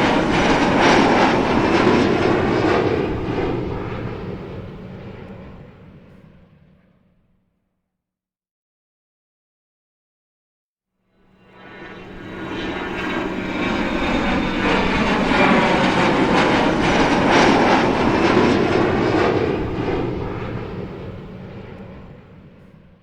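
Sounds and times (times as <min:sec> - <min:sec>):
jet aircraft flying over: 0:00.0 - 0:07.2, 0:11.2 - 0:23.0.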